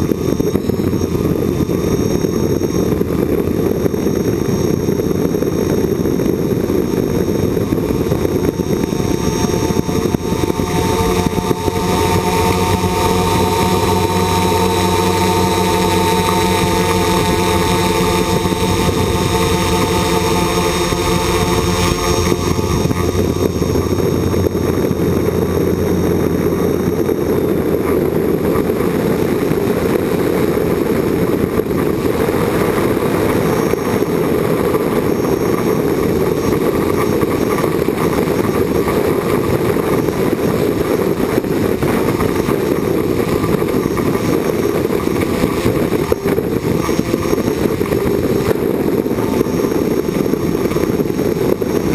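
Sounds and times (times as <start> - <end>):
drone motors humming: 0.0 - 51.9
rough rushing noise: 0.0 - 51.9.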